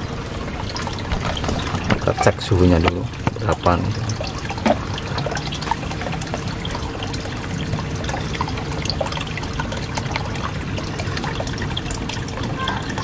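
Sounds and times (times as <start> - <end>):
water trickling into a plastic tank: 0.0 - 13.0.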